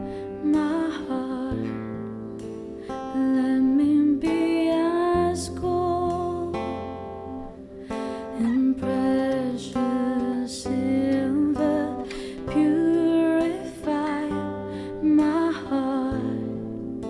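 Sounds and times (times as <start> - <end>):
person singing: 0.0 - 2.0, 2.9 - 17.0
acoustic guitar: 0.0 - 17.0.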